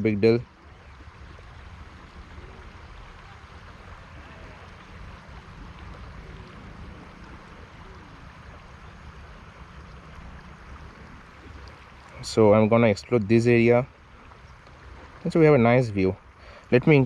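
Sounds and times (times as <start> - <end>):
wind rumbling on microphone: 0.0 - 15.5
river water flowing: 0.0 - 17.0.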